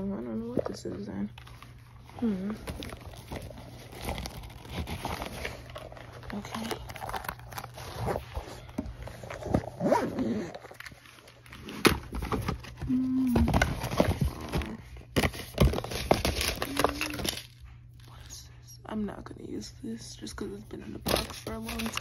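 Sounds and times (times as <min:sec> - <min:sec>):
rummaging in a cardboard box: 0:00.0 - 0:18.3, 0:20.6 - 0:22.0.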